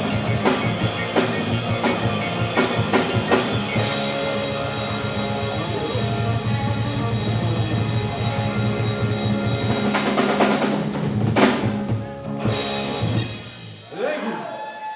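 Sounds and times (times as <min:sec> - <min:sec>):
drum roll: 0:00.0 - 0:14.0
live rock band: 0:00.0 - 0:14.9.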